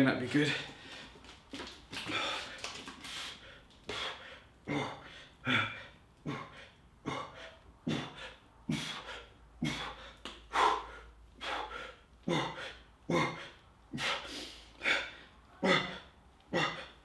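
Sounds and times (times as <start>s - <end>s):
man breathing hard: 1.9s - 17.0s.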